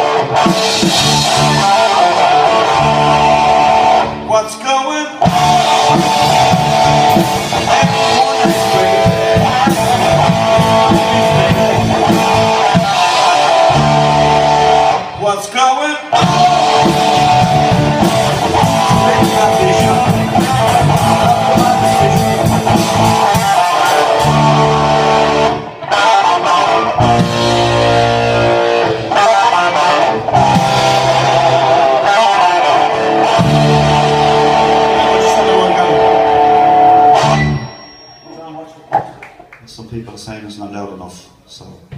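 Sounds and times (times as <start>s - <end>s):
electric guitar: 0.0s - 39.5s
live band playing: 0.0s - 39.5s.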